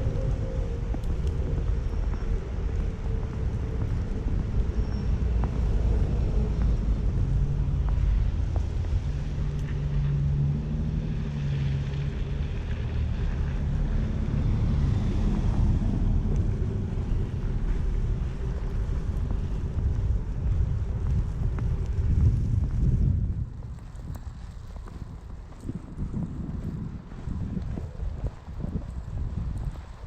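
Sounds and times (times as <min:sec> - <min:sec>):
vehicle engine hum: 0:00.0 - 0:30.0
wind rumble on microphone: 0:00.0 - 0:30.0.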